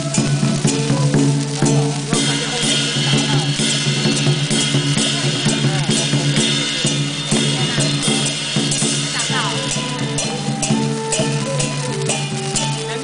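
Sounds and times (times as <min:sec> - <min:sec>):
cymbals clashing: 0:00.0 - 0:13.0
drums beating a driving rhythm: 0:00.0 - 0:13.0
fireworks hissing and crackling: 0:00.0 - 0:13.0.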